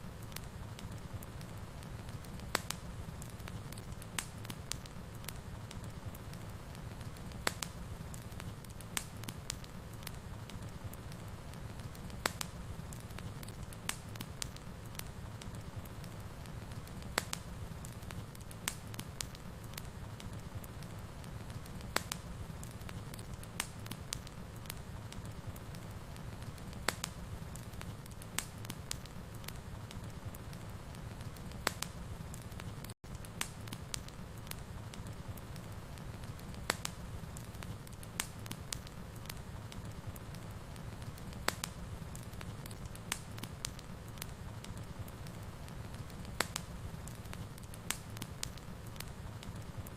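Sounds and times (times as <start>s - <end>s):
fire crackling and popping: 0.0s - 49.9s
low fire rumble: 0.0s - 49.9s.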